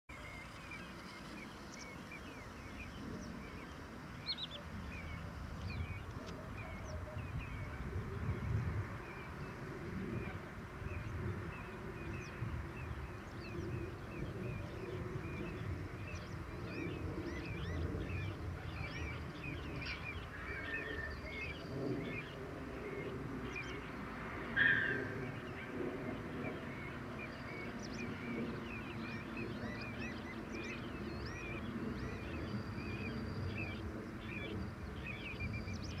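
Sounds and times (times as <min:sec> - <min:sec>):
birds chirping: 0:00.1 - 0:36.0.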